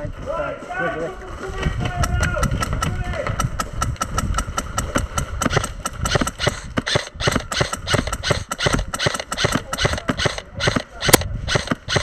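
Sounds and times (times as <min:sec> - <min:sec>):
airsoft rifle rapid shots: 0:02.0 - 0:12.0.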